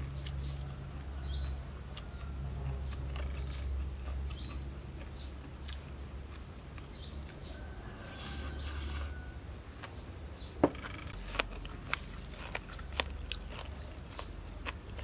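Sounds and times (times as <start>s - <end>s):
person chewing: 0.2s - 10.0s, 10.7s - 15.0s.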